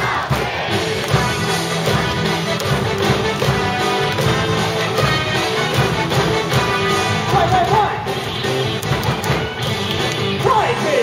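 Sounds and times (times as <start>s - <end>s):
cheer song over loudspeakers: 0.0s - 11.0s.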